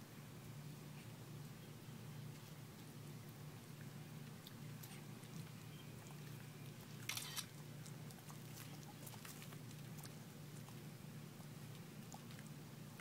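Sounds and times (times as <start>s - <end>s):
tortoise chewing with wet clicks: 1.4s - 13.0s.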